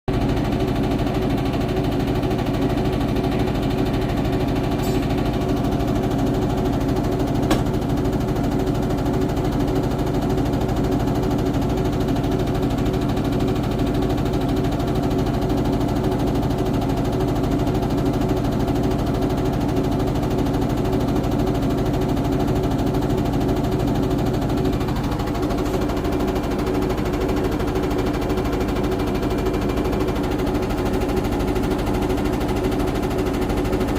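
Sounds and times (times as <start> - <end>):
washing machine humming: 0.1 - 33.9
washing machine rattling: 0.1 - 33.9.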